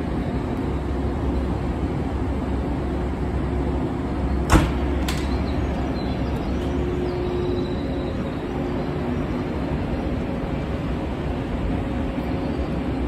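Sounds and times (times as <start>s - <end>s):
electric trains humming: 0.0s - 13.0s.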